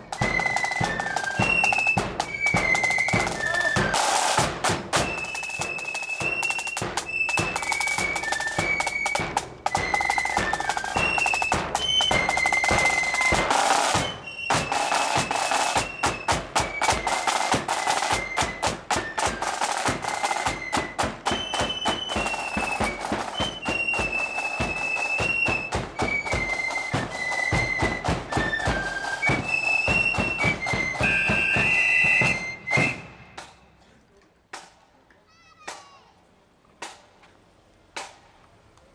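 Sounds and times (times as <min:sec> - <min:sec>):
high flute melody: 0:00.0 - 0:33.6
rapid snare drumming: 0:00.0 - 0:33.8.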